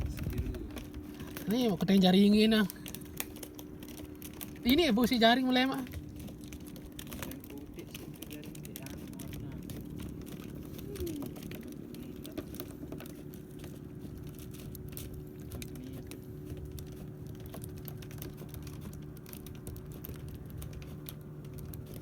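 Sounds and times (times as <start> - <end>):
boat engine drone: 0.0 - 22.0
light clicks and taps: 0.0 - 22.0.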